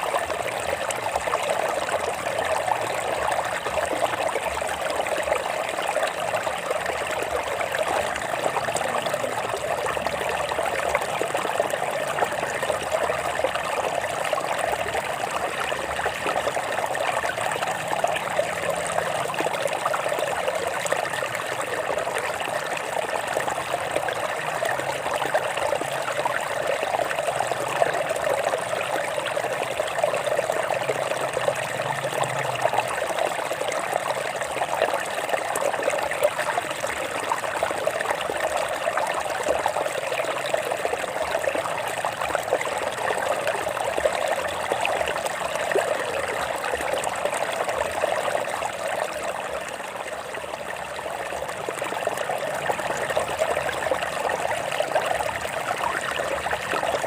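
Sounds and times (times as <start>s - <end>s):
stream water running over rocks: 0.0s - 57.0s.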